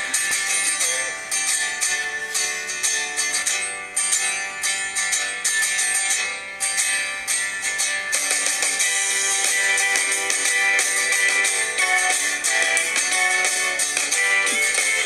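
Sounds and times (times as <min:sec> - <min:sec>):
strummed guitar music: 0:00.0 - 0:15.0.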